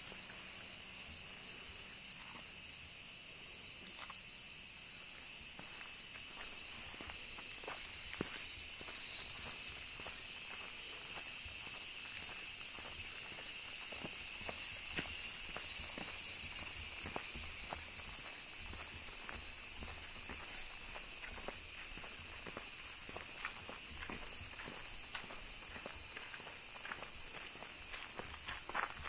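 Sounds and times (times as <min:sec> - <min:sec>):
cicadas chorus: 0:00.0 - 0:29.0
footsteps of person walking: 0:00.1 - 0:02.6, 0:03.7 - 0:04.3, 0:04.9 - 0:29.0.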